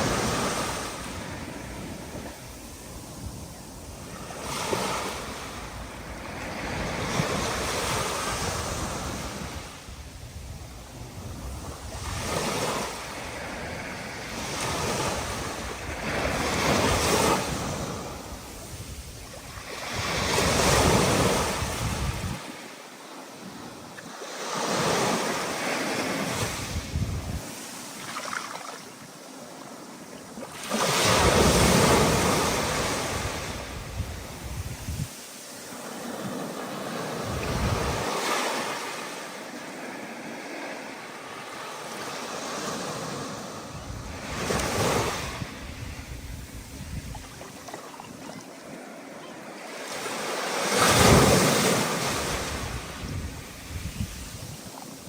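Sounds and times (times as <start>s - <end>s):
ocean waves breaking: 0.0s - 10.2s, 10.8s - 55.0s
wind: 0.0s - 55.0s.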